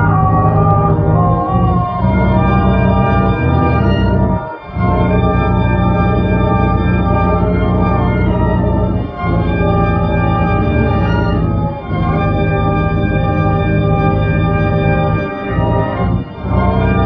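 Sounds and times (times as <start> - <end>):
organ-like drone of chords: 0.0 - 17.0.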